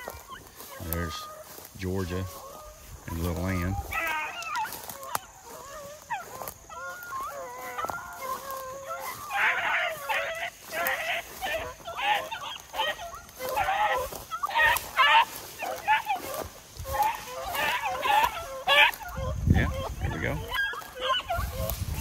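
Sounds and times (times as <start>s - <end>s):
hounds baying and barking: 0.0s - 22.0s.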